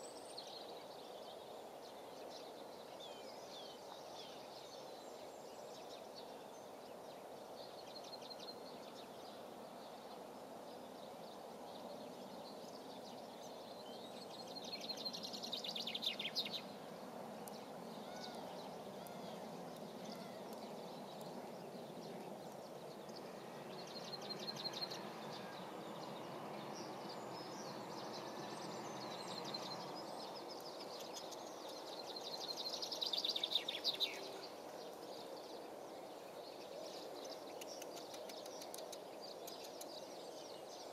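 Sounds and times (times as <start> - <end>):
low outdoor background noise: 0.0 - 40.9.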